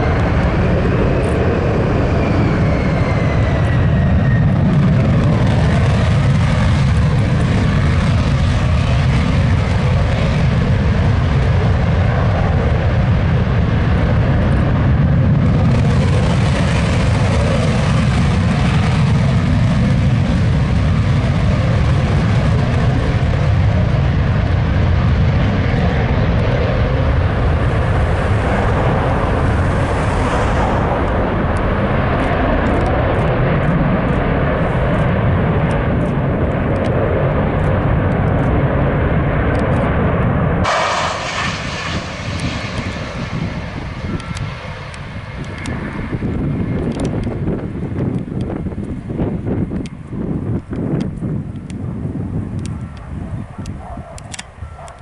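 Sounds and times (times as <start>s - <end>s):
deep jet rumble: 0.0s - 55.0s
jet engine roar: 0.0s - 55.0s.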